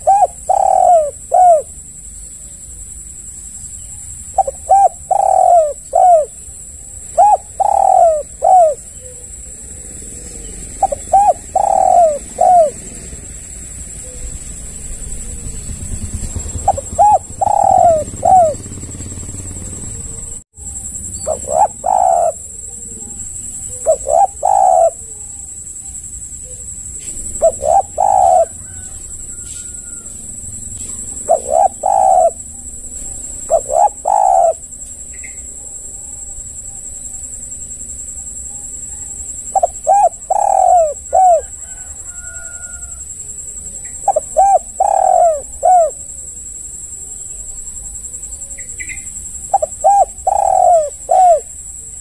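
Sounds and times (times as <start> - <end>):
dove cooing: 0.0 - 3.1, 3.8 - 37.8, 38.4 - 52.0
steady high whine: 0.0 - 52.0.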